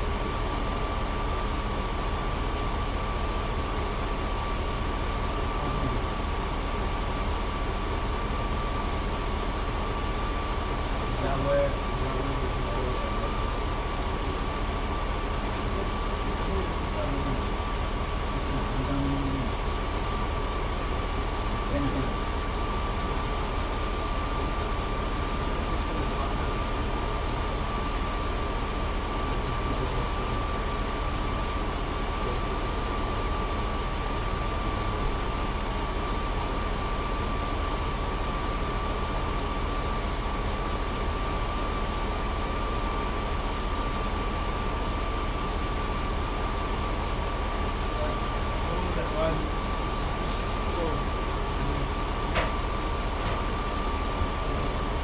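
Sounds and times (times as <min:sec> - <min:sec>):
thin steady whine: 0:00.0 - 0:55.0
truck engine idling: 0:00.0 - 0:55.0.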